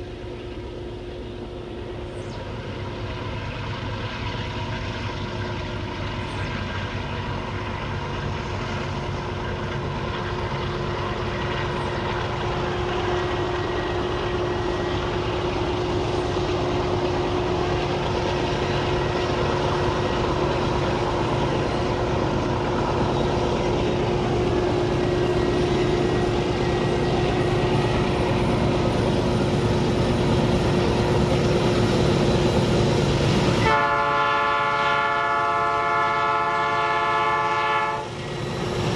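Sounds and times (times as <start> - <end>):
locomotive engines humming: 0.0 - 38.9.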